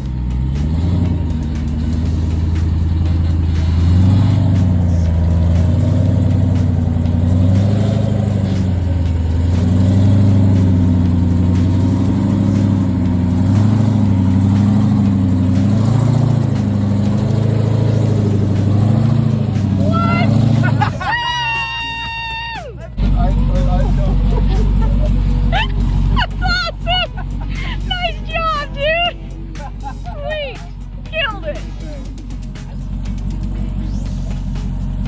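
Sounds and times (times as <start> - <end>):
engine revving under load: 0.0 - 35.0.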